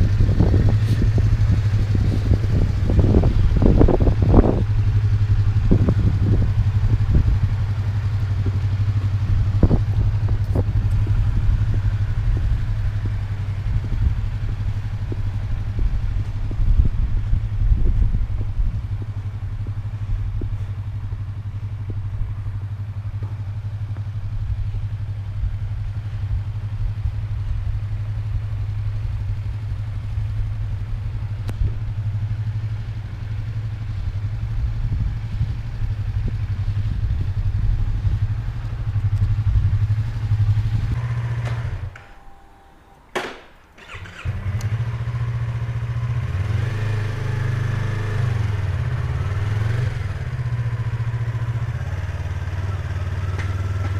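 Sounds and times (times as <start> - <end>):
motorcycle engine running: 0.0 - 42.2, 43.8 - 53.9.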